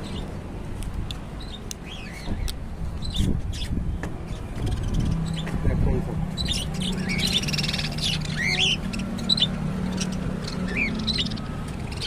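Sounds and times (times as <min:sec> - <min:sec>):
birds chirping and squawking: 0:00.0 - 0:00.4, 0:01.2 - 0:12.0.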